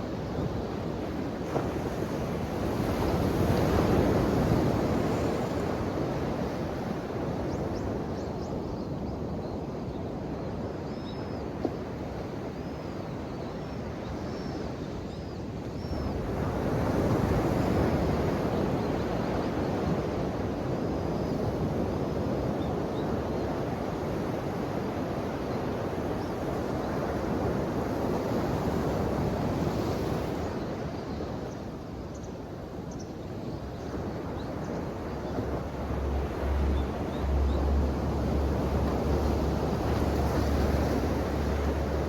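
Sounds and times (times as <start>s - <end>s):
ocean waves washing onto shore: 0.0s - 9.0s, 15.4s - 42.0s.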